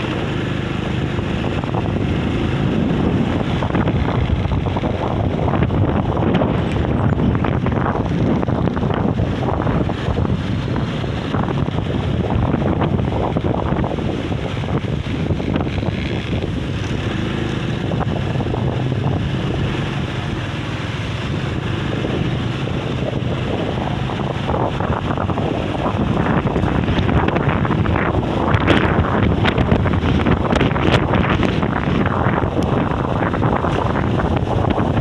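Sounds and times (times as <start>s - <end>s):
strong wind buffeting microphone: 0.0s - 35.0s.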